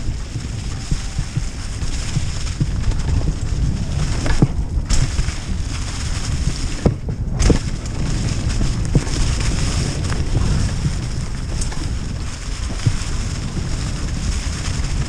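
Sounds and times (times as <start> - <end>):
bike knocking and rattling: 0.0 - 15.0
tyres crunching through leaves: 0.0 - 15.0
wind rumbling on microphone: 0.0 - 15.0.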